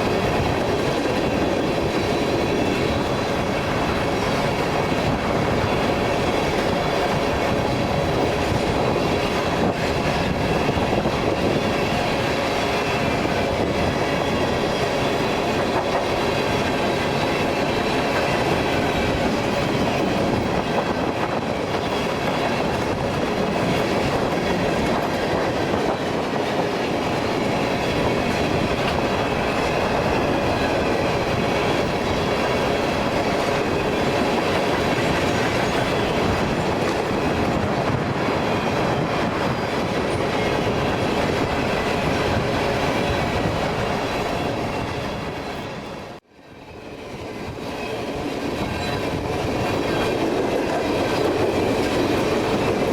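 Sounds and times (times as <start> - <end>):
freight train rolling past: 0.0 - 52.9.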